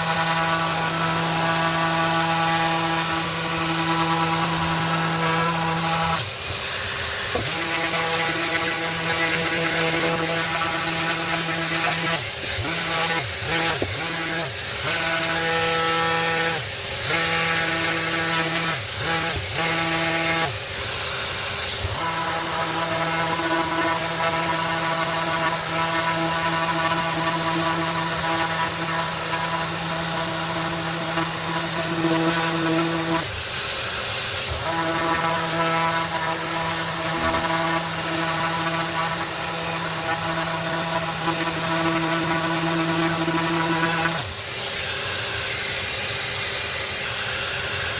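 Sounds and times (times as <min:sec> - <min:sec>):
orbital sander whining: 0:00.0 - 0:47.9.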